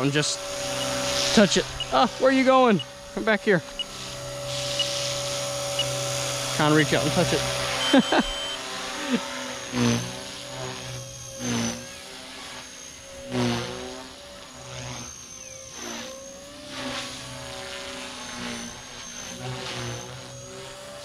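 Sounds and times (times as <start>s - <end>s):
helicopter motor and rotor whine: 0.0s - 21.0s.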